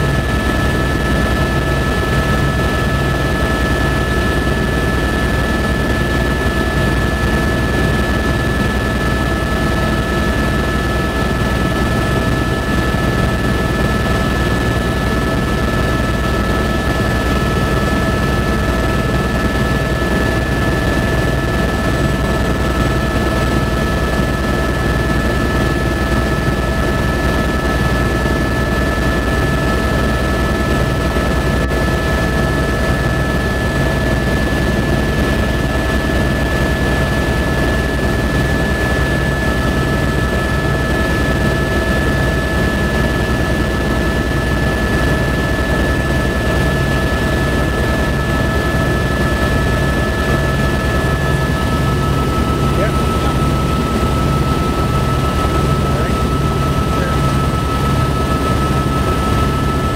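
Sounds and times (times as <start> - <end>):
helicopter engine and rotor rumble: 0.0 - 59.9.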